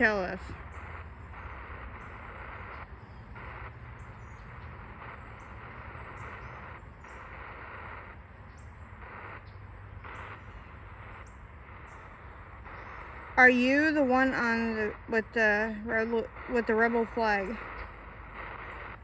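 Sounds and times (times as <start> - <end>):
radio static hiss scanning: 0.0 - 19.0.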